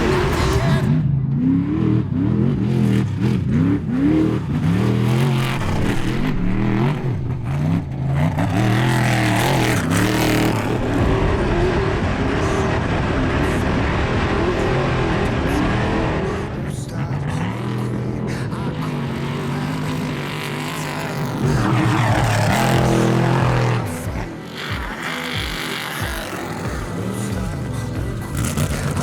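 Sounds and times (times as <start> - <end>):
truck engine revving hard: 0.0 - 29.0.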